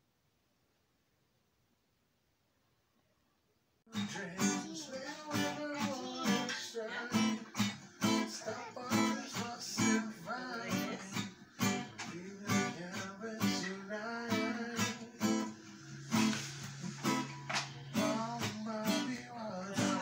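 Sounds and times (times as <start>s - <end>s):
acoustic guitar strumming: 3.9s - 20.0s.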